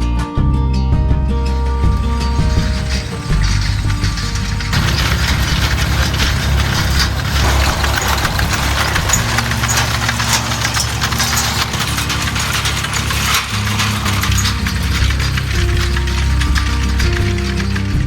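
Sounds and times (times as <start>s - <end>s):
tractor engine running: 1.2s - 18.0s.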